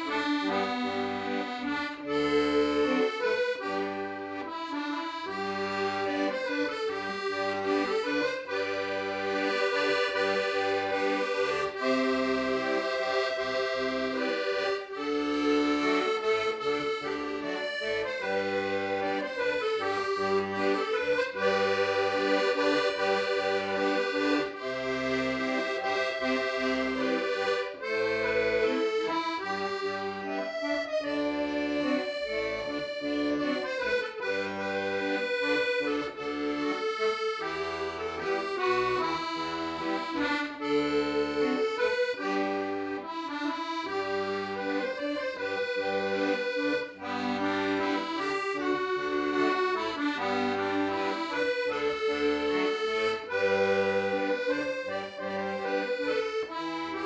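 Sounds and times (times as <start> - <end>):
accordion melody: 0.0 - 57.0
rhythmic bass accompaniment: 0.0 - 57.0.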